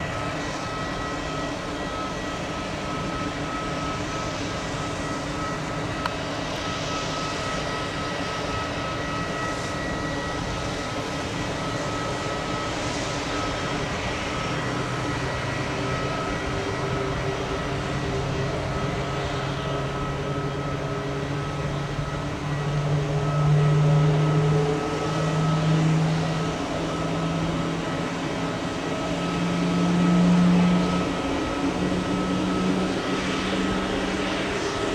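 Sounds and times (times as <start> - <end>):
jet engine whine: 0.0 - 34.9.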